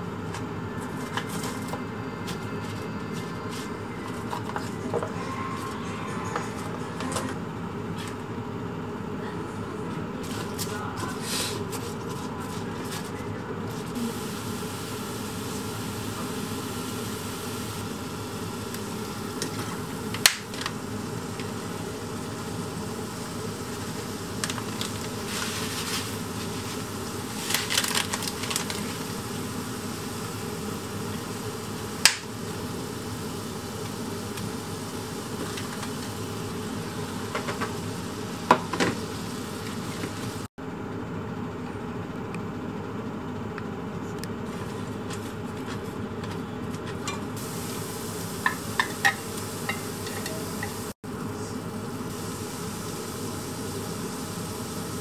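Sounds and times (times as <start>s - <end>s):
fan hum: 0.0s - 55.0s.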